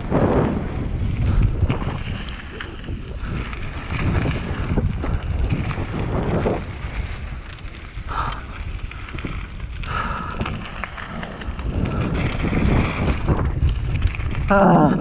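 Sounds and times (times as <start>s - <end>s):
bike tyres rolling on gravel: 0.0s - 15.0s
wind buffeting microphone: 0.0s - 15.0s.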